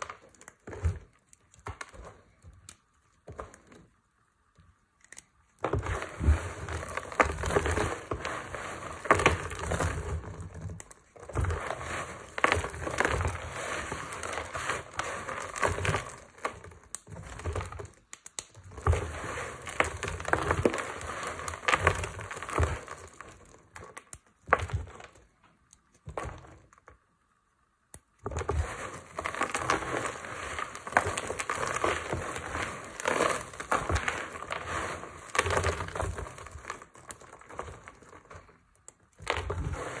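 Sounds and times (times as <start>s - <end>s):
hands crumbling dry soap: 0.0s - 4.0s, 4.6s - 26.9s, 28.0s - 40.0s.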